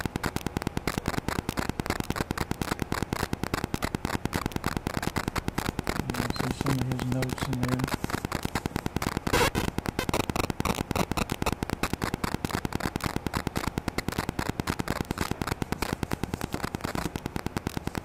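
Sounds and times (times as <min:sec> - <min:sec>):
rapid clicking buzz of interference: 0:00.0 - 0:18.0.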